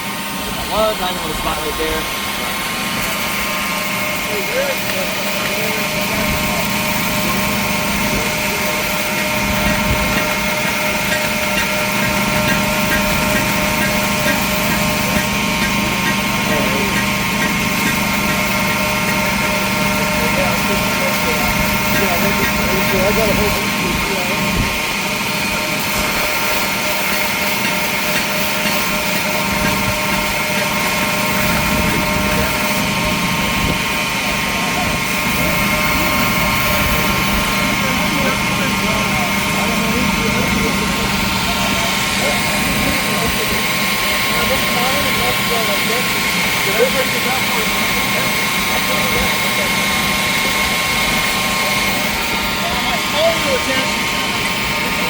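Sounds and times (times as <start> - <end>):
belt grinder motor whine: 0.0 - 55.0.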